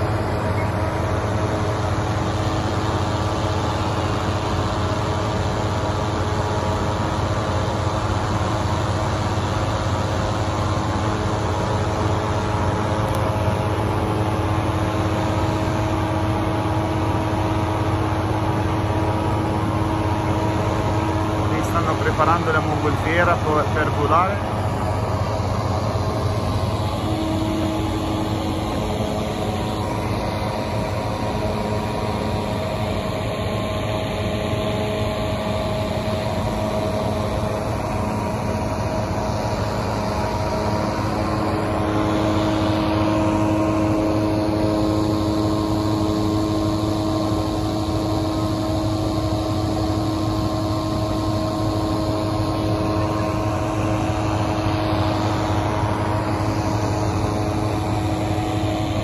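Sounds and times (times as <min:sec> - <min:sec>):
inflation fan engine drone: 0:00.0 - 0:59.0.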